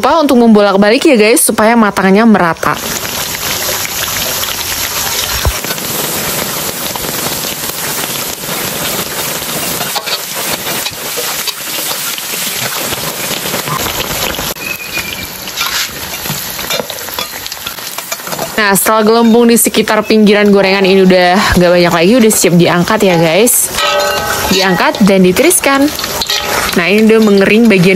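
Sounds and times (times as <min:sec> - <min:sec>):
oil sizzling while deep-frying: 0:01.0 - 0:27.9.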